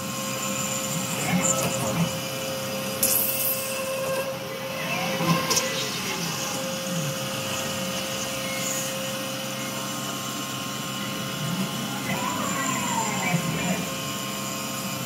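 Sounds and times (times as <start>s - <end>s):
milling cutter whine: 0.0s - 15.0s.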